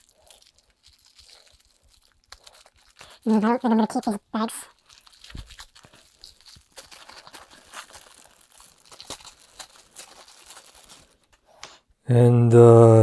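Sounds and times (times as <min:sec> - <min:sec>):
plastic bags crinkling: 0:00.0 - 0:11.6.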